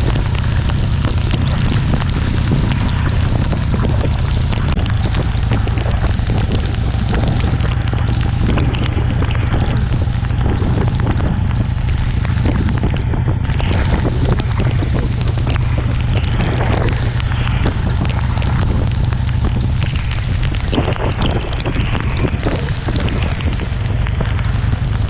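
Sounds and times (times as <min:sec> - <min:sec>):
raindrops pattering: 0:00.0 - 0:25.0
wind noise on microphone: 0:00.0 - 0:25.0.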